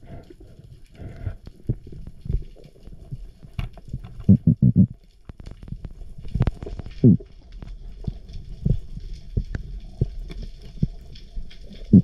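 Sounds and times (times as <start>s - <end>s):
low underwater rumble: 0.0s - 12.0s
underwater clicks and knocks: 1.6s - 12.0s.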